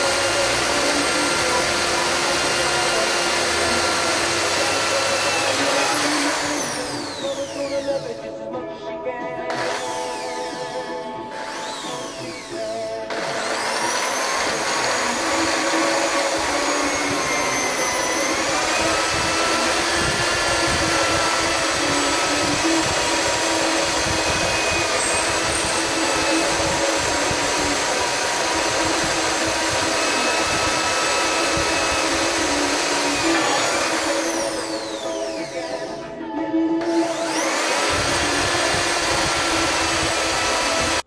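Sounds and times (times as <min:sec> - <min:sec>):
electric drill boring into metal: 0:00.0 - 0:08.4, 0:09.5 - 0:36.2, 0:36.8 - 0:41.0.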